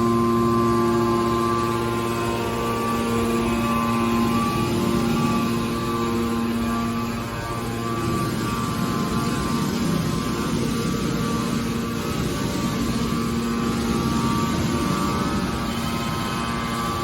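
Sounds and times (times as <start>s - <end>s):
metal baler machine hum: 0.0s - 17.0s.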